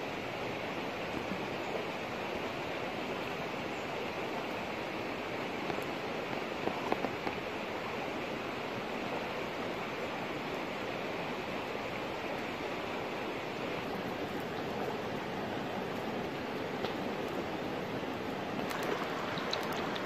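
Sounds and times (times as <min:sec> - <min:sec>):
steady rushing outdoor noise: 0:00.0 - 0:20.0.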